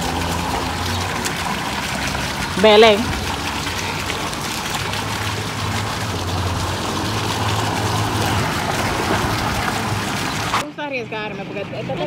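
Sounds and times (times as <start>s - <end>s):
running water rushing: 0.0s - 10.6s.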